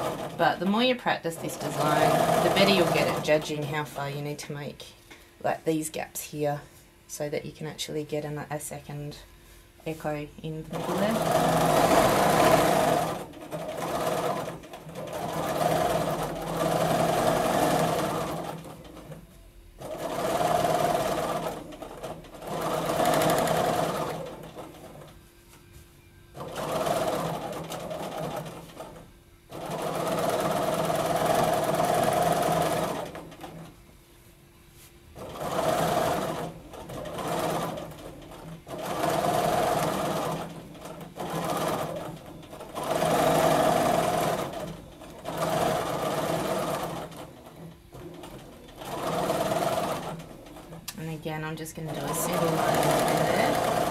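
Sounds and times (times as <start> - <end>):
sewing machine stitching: 0.0 - 3.9, 10.7 - 19.2, 19.8 - 25.2, 26.4 - 33.7, 35.2 - 53.9.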